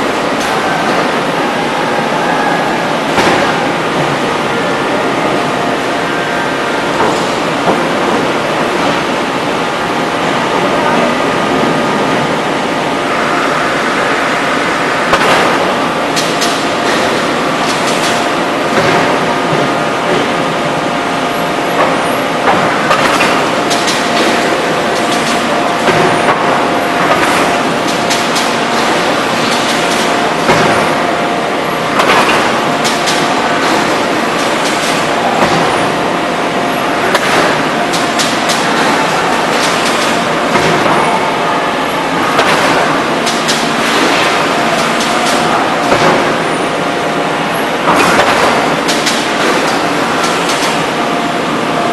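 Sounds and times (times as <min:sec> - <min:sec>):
industrial machinery din: 0:00.0 - 0:51.9.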